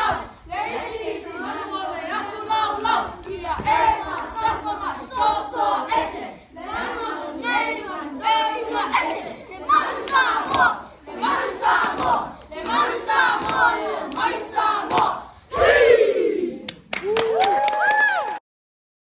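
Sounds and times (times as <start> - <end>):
children chanting: 0.0 - 16.7.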